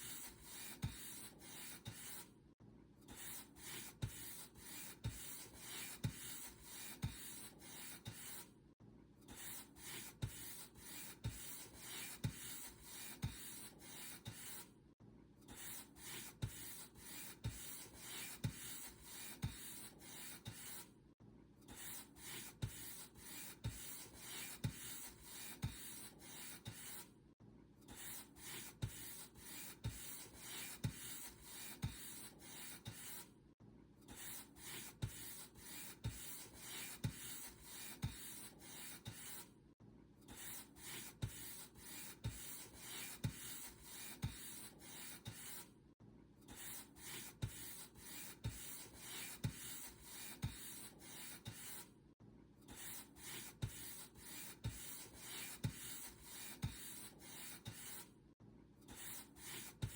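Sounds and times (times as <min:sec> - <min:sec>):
paint brush strokes: 0:00.0 - 0:02.3, 0:03.2 - 0:08.5, 0:09.4 - 0:14.7, 0:15.6 - 0:20.9, 0:21.8 - 0:27.1, 0:27.9 - 0:33.3, 0:34.1 - 0:39.5, 0:40.3 - 0:45.7, 0:46.5 - 0:51.9, 0:52.7 - 0:58.1, 0:58.9 - 0:59.9.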